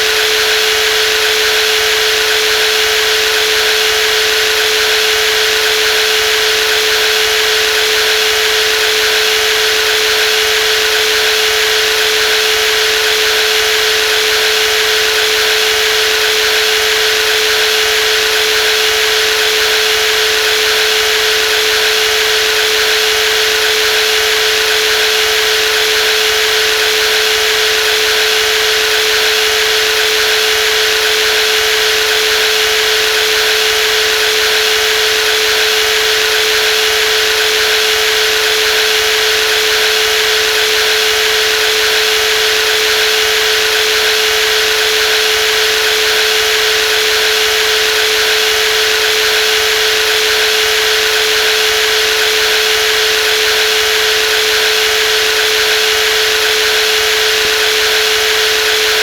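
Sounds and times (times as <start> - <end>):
jigsaw running: 0.0 - 59.0.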